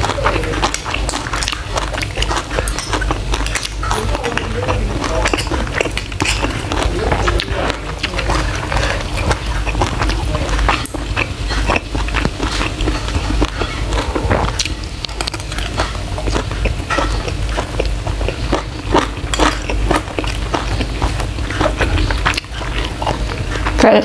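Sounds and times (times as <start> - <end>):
chewing with mouth clicks: 0.0 - 24.0.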